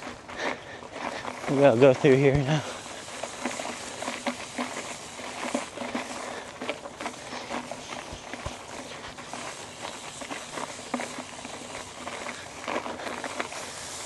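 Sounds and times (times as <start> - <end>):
bike rattling over rough ground: 0.0 - 14.0.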